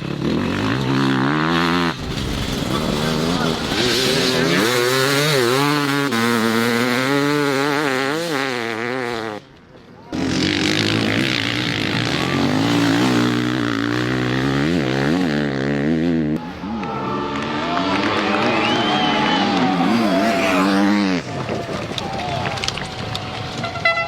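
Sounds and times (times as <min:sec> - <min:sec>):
motorcycle engine revving: 0:00.0 - 0:16.4, 0:17.1 - 0:23.8.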